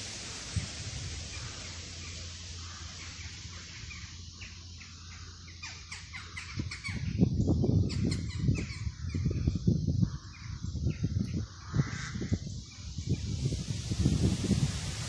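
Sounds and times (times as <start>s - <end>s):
small birds chirping: 0.0s - 14.7s
steady hiss: 0.0s - 15.0s.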